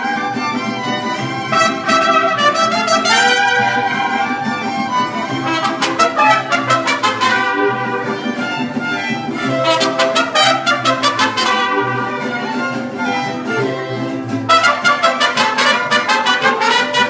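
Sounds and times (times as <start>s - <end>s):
mariachi band playing: 0.0s - 17.0s
strummed guitar rhythm: 0.0s - 17.0s
violins: 0.0s - 17.0s.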